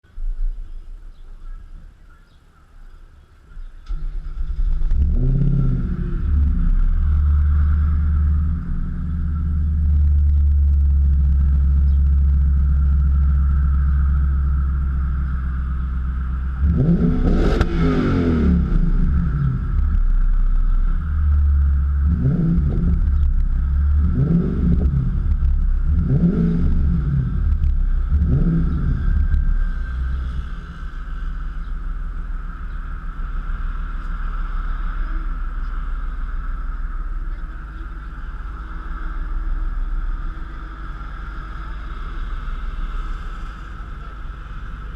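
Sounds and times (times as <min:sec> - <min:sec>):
car engine idling: 0:00.0 - 0:44.9
car engine starting: 0:03.2 - 0:44.9
car engine revving: 0:03.8 - 0:44.9.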